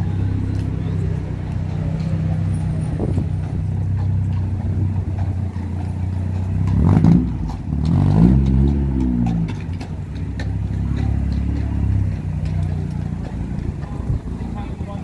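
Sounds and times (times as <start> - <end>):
vehicle accelerating past: 0.0 - 14.5
vehicle engine running: 0.0 - 15.0.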